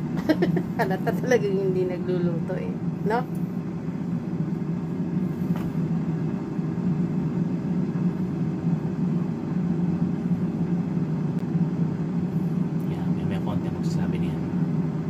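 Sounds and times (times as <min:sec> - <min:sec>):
air fryer fan humming: 0:00.0 - 0:15.0.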